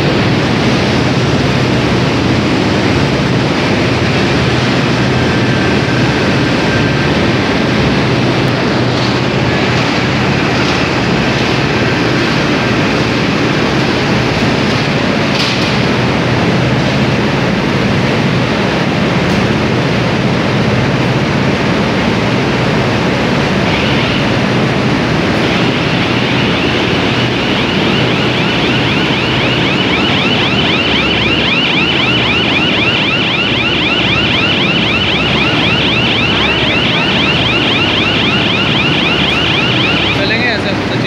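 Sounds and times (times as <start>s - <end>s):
machinery running with loud din: 0.0s - 41.0s.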